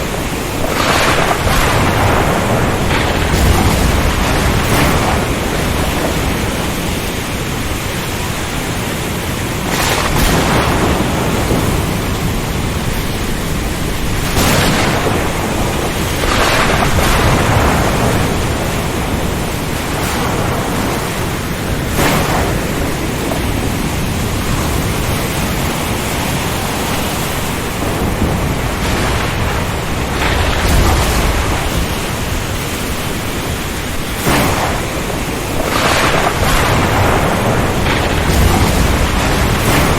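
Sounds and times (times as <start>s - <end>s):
loud rush of wind: 0.0s - 39.9s
rain: 0.0s - 39.9s
sharp cracks of thunder: 0.0s - 39.9s
surf: 0.0s - 39.9s.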